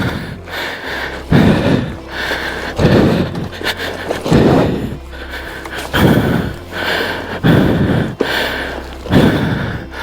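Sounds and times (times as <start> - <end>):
man breathing hard: 0.0 - 10.0.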